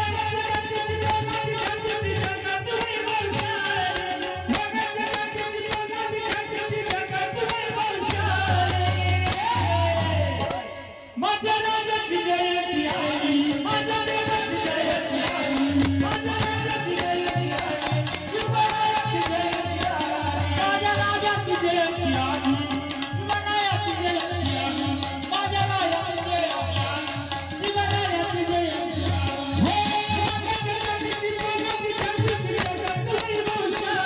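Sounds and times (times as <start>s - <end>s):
devotional folk music: 0.0s - 34.0s
rattling jingling percussion: 0.0s - 34.0s.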